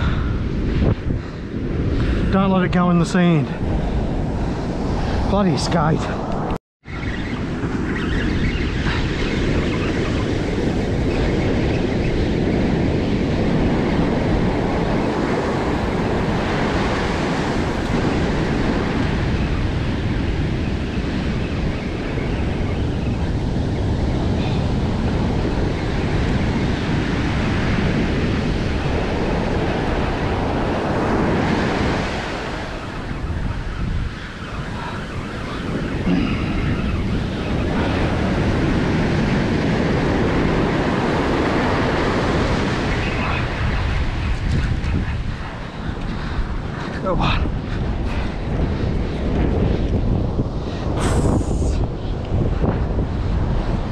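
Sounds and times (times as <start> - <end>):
wind buffeting microphone: 0.0 - 53.9
ocean surf breaking: 7.2 - 53.9.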